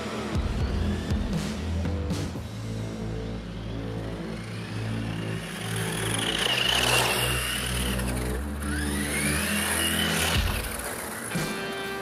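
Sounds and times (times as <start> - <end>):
electric motor and gears whining: 0.0 - 2.2, 2.8 - 12.0
background music: 0.0 - 12.0.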